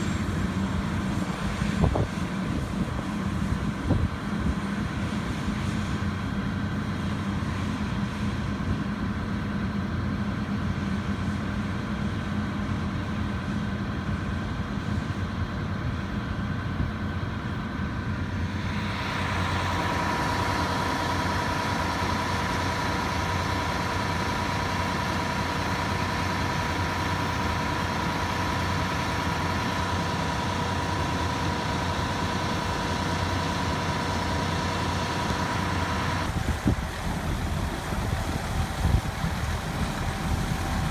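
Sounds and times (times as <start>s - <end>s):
combine harvester engine hum: 0.0s - 40.9s
high whine and hiss: 0.0s - 40.9s.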